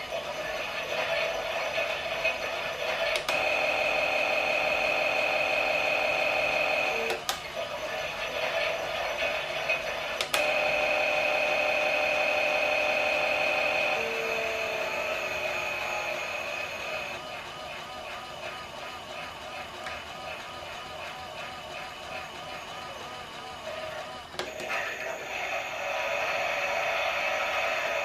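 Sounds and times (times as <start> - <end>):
toy washing machine motor whining: 0.0 - 28.0.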